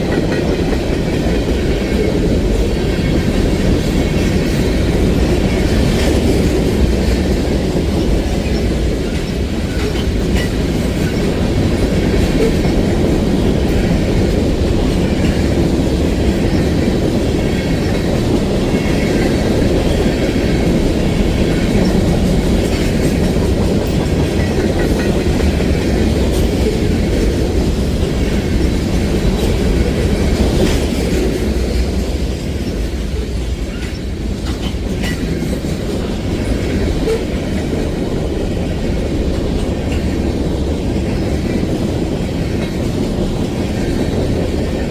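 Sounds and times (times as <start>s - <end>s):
train wheels rumbling on rails: 0.0s - 44.9s
wheels clacking over rail joints: 0.0s - 44.9s.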